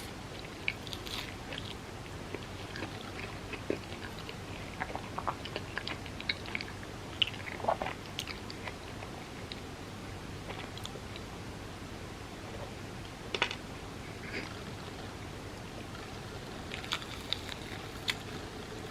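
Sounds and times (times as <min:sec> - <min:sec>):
person chewing: 0:00.0 - 0:09.6, 0:13.4 - 0:18.9.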